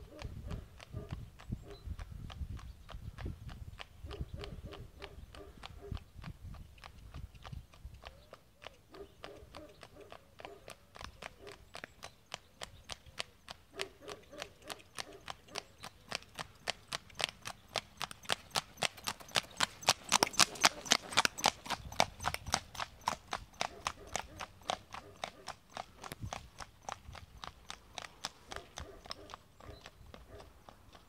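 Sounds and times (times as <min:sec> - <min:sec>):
horse hooves on pavement: 0:00.0 - 0:31.0.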